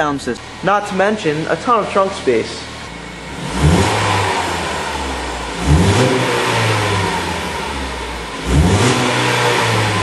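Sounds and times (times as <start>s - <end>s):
car engine revving: 0.2s - 10.0s.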